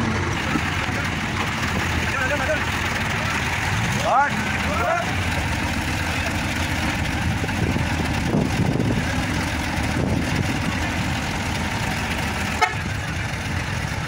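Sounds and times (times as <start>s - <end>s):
crane diesel engine running: 0.0s - 14.0s.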